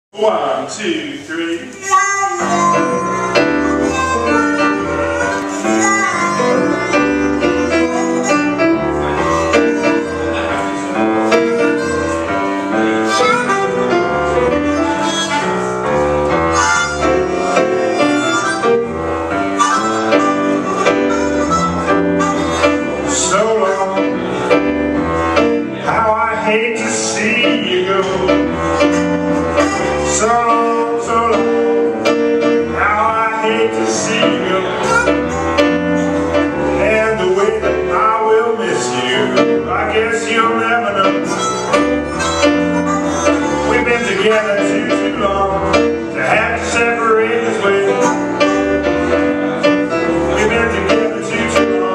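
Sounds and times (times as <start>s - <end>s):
blues band playing: 1.2s - 51.9s
sliding bent notes: 1.4s - 51.9s.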